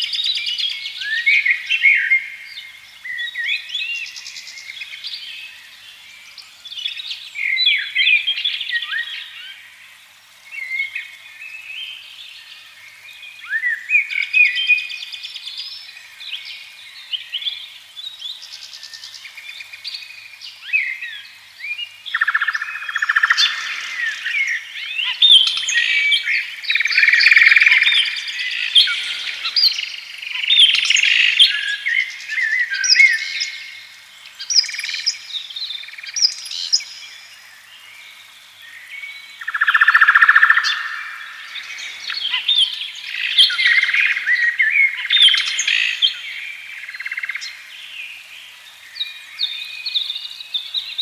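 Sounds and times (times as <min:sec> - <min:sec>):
songbirds chirping and trilling: 0:00.0 - 0:51.0.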